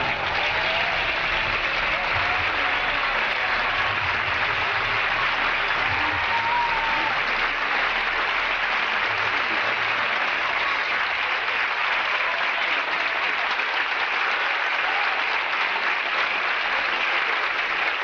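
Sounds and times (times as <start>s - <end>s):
audience applause: 0.0s - 18.0s.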